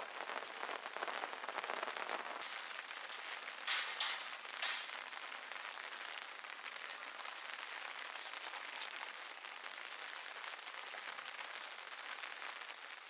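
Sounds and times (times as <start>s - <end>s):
rain pattering on plastic sheet: 0.0s - 13.0s.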